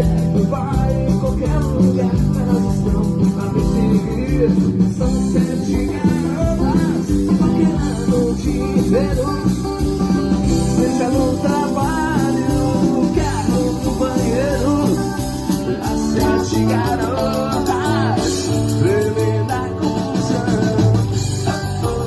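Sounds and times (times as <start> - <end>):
bending guitar lead line: 0.0 - 22.0
rock band playing: 0.0 - 22.0.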